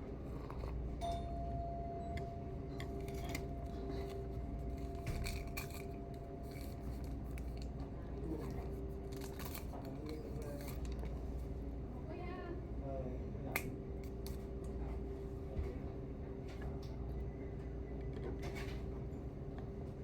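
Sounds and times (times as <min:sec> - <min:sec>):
restaurant background noise: 0:00.2 - 0:19.3.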